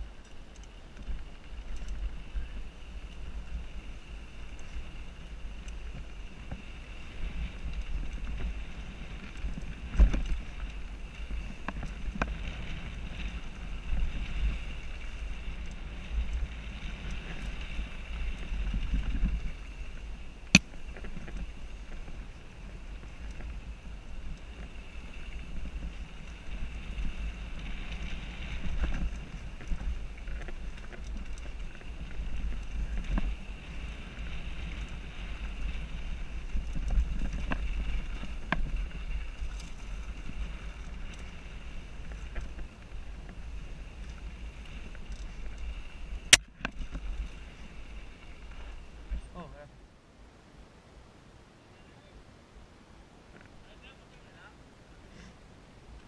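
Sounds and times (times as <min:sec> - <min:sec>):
bike rattling over rough trail: 0:00.0 - 0:49.7.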